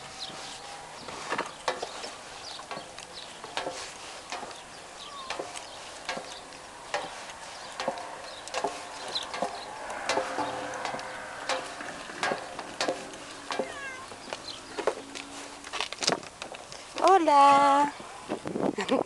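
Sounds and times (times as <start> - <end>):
footsteps on wooden stairs: 0.2 - 17.1.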